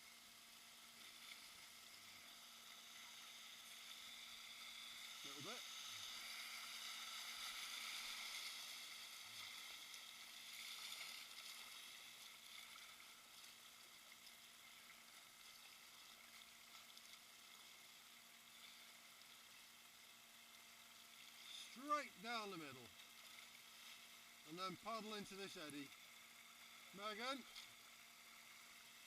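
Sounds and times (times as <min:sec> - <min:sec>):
river water over rocks: 0:00.0 - 0:29.0.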